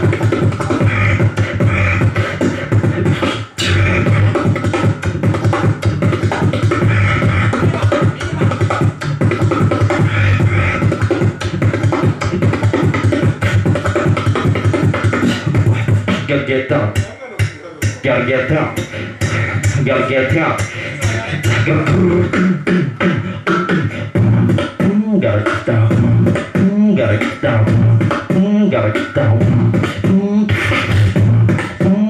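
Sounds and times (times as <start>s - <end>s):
person beatboxing into microphone: 0.0s - 32.0s
steady deep bass: 0.0s - 32.0s.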